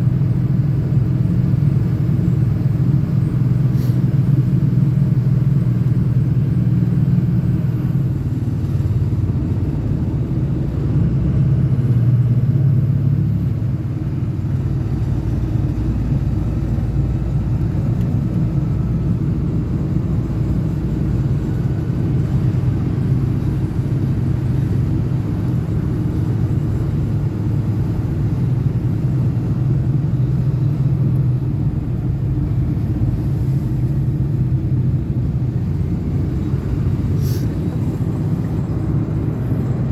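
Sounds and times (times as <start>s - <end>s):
diesel engine drone: 0.0s - 39.9s
road noise: 0.0s - 39.9s.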